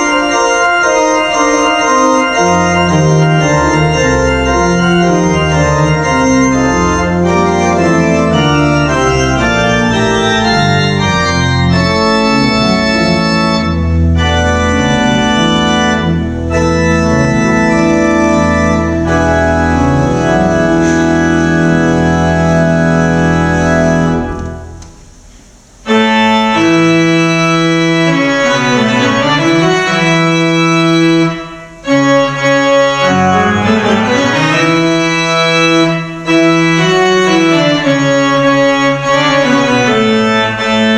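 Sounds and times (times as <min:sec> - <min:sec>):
church organ playing a hymn: 0:00.0 - 0:40.9.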